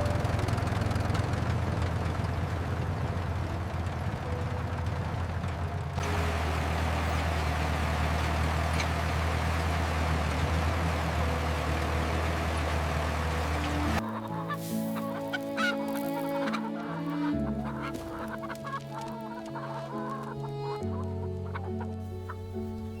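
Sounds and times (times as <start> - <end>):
chickens clucking: 0.0 - 23.0
light music: 0.0 - 23.0
tractor engine droning: 0.0 - 23.0.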